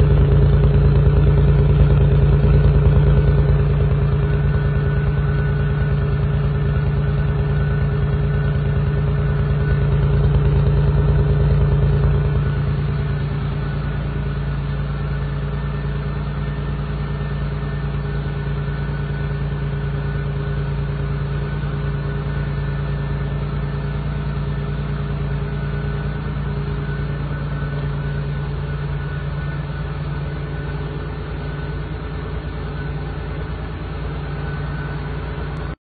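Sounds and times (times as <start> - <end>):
car engine idling: 0.0 - 35.8.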